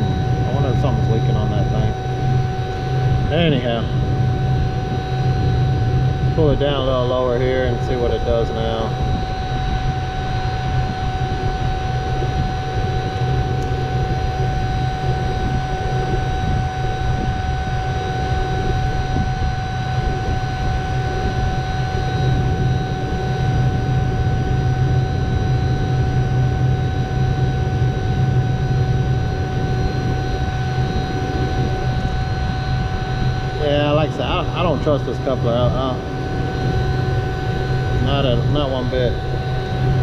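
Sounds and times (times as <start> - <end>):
vacuum pump running: 0.0 - 40.0.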